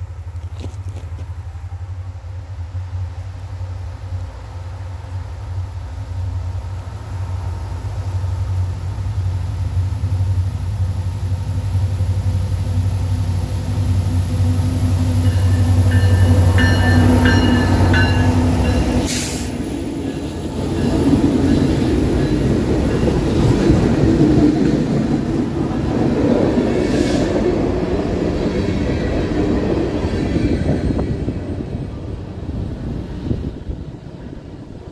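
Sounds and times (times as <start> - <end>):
diesel locomotive engines droning: 0.0 - 34.9
freight cars rumbling over rails: 3.8 - 34.9.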